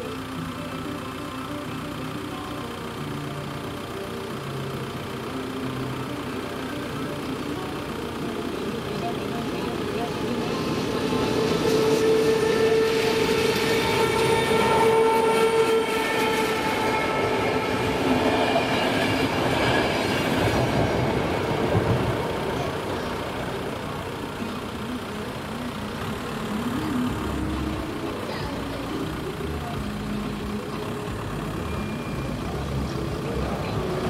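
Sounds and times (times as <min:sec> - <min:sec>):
steady pitched tone: 0:00.0 - 0:34.0
train rolling past: 0:02.2 - 0:34.0.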